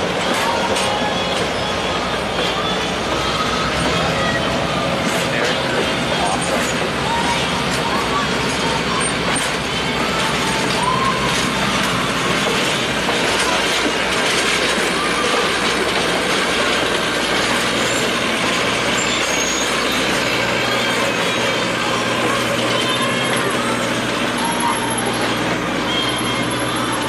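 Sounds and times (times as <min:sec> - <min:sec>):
faint wheel squeals: 0:00.0 - 0:27.0
train wheels rumbling on rail: 0:00.0 - 0:27.0.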